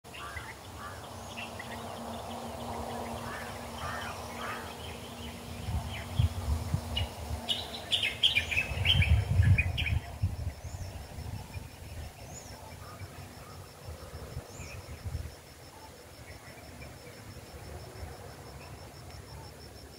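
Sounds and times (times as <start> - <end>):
birds chirping: 0.1 - 17.3.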